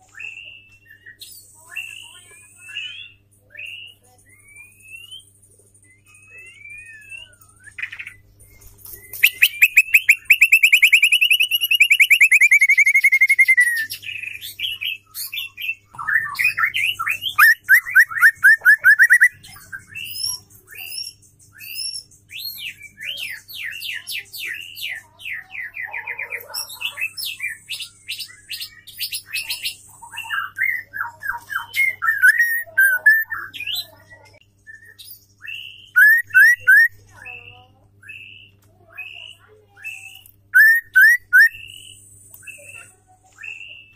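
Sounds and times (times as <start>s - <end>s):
bird singing trills and whistles: 0.0s - 43.9s.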